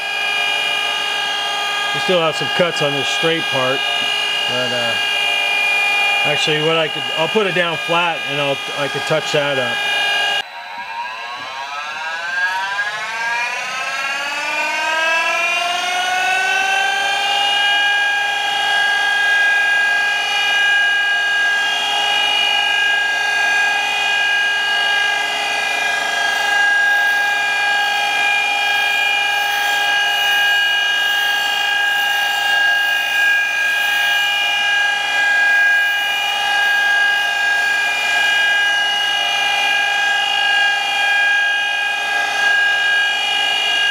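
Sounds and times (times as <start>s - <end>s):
grinder motor whine: 0.0s - 43.9s.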